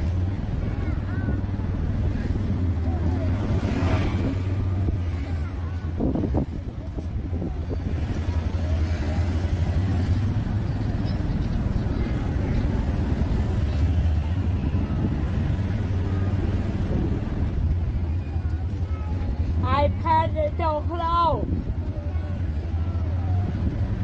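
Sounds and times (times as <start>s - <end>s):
street traffic noise: 0.0s - 24.0s
vehicle engine humming: 0.0s - 24.0s.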